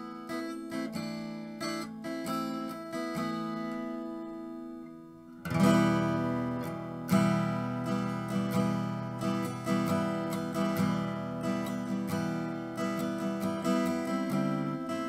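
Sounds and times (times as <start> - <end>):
acoustic guitar picked notes: 0.0 - 15.0
acoustic guitar strummed chord: 0.0 - 15.0.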